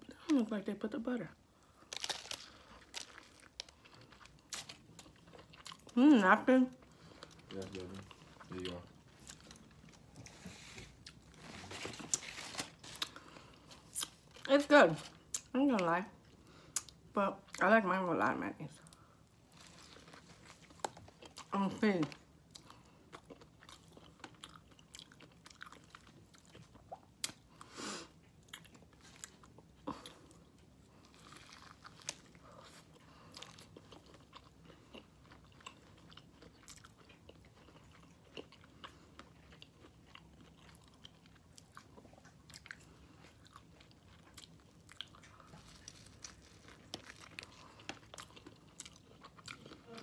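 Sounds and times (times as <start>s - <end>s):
chewing and crunching: 1.6s - 17.6s, 18.8s - 50.0s.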